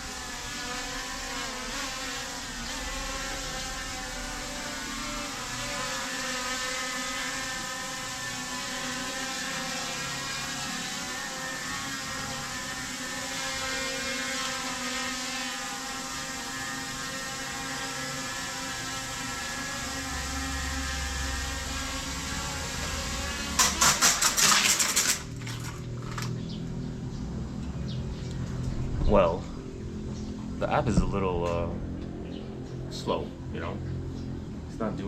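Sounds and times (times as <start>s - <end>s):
drone propellers whirring: 0.0s - 24.4s, 25.1s - 35.0s.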